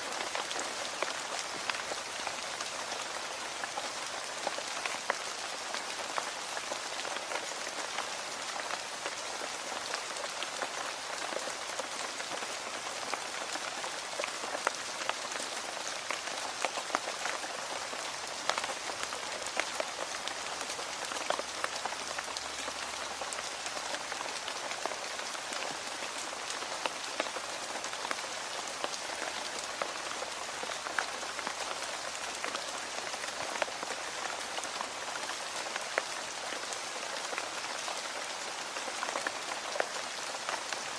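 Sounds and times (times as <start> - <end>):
rain on a hard surface: 0.0 - 40.9.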